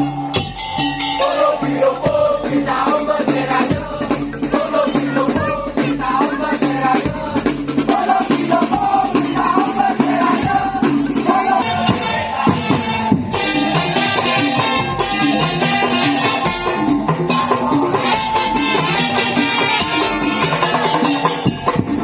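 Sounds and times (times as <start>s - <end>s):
drum and rattle percussion: 0.0s - 22.0s.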